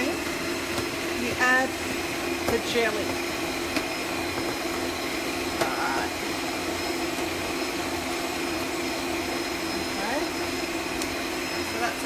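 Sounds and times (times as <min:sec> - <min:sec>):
stand mixer motor drone: 0:00.0 - 0:12.0.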